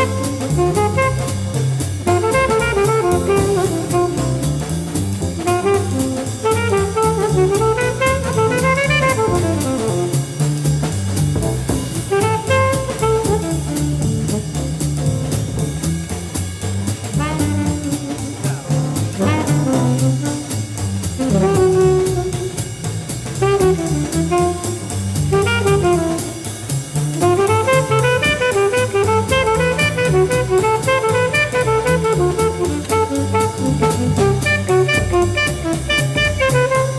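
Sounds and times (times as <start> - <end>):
alto saxophone solo: 0.0 - 10.7, 11.9 - 14.5, 17.1 - 36.9
drum kit cymbal beat: 0.0 - 36.9
plucked double bass: 0.0 - 36.9.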